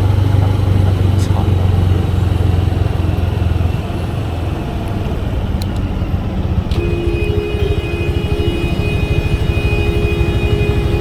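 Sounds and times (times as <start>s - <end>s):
motorcycle engine rumbling: 0.0s - 11.0s
steady whine: 0.0s - 11.0s.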